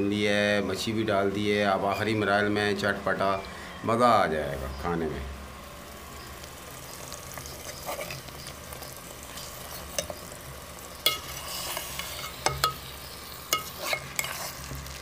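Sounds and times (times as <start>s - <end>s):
fish frying and sizzling in pot: 0.0s - 15.0s.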